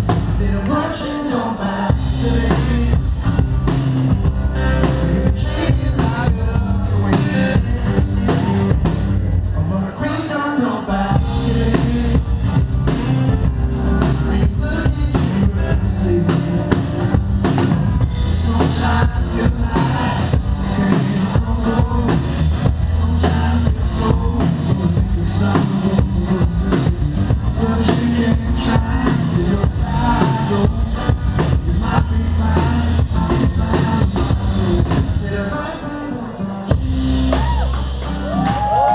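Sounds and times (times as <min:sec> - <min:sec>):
drum kit beat: 0:00.0 - 0:00.6, 0:01.9 - 0:09.6, 0:11.1 - 0:35.4, 0:36.7 - 0:38.9
bass guitar: 0:00.0 - 0:38.9
rock band playing: 0:00.0 - 0:38.9.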